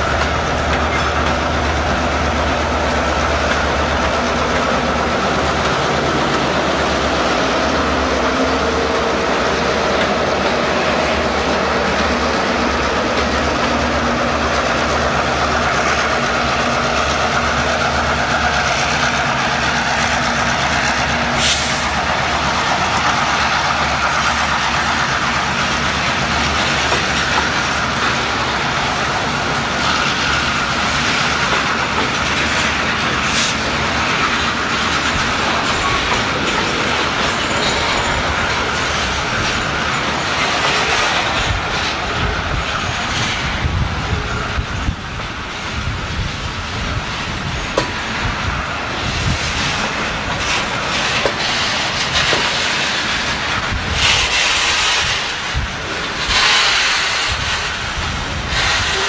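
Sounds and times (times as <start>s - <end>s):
diesel locomotives drumming: 0.0s - 59.0s
freight cars rumbling: 0.0s - 59.0s
wheels clacking over rail joints: 0.0s - 59.0s.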